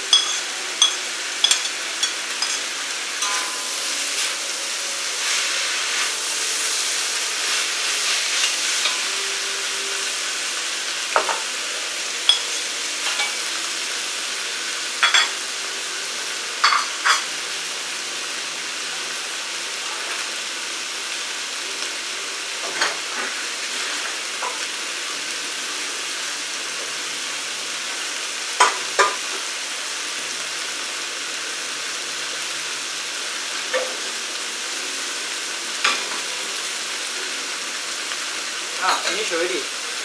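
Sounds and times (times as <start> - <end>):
noodles sizzling in a wok: 0.0 - 40.0.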